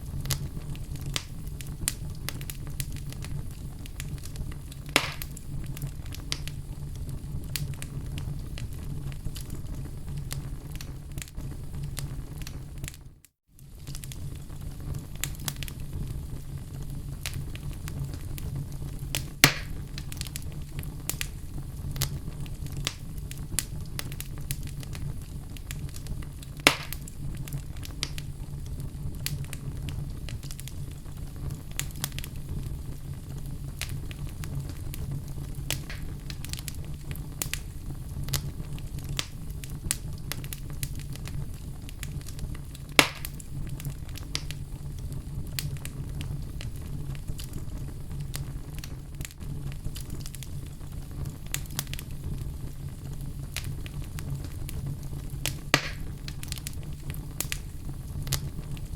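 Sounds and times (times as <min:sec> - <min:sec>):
sharp pops from fire: 0:00.0 - 0:13.0, 0:13.6 - 0:58.9
wood fire crackling: 0:00.0 - 0:58.9.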